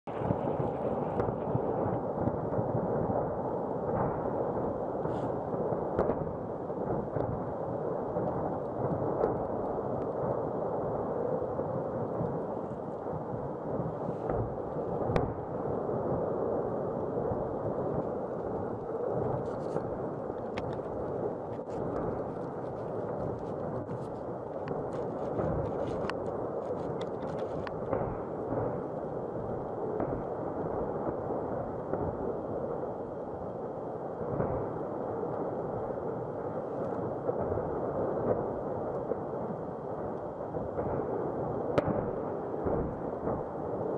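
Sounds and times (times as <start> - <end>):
distant rumble of explosions: 0.1 - 43.9.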